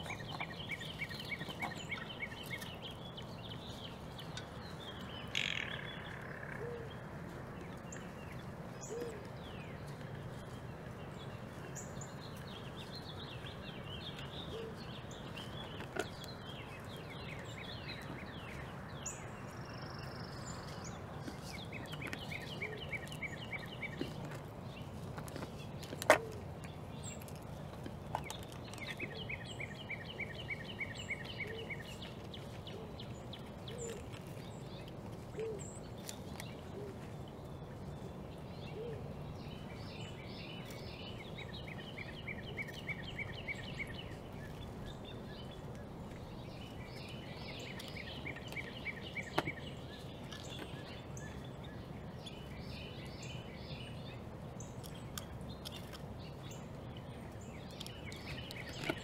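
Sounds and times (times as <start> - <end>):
songbird trilling: 0.0 - 7.0, 7.6 - 27.2, 28.2 - 56.7
outdoor background noise: 0.0 - 59.0.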